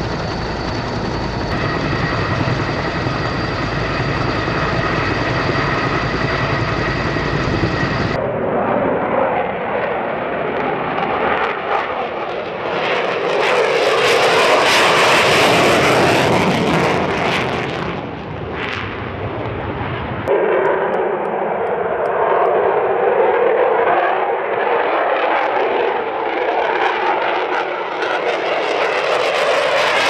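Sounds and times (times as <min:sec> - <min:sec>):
jet taking off with afterburner: 0:00.0 - 0:30.0.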